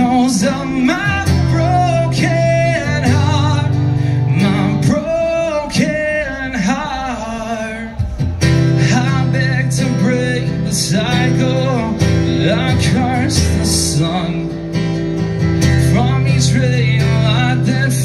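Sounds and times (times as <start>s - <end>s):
man singing: 0.0s - 18.0s
rock band with drums: 0.0s - 18.0s
strummed acoustic guitar: 0.0s - 18.0s.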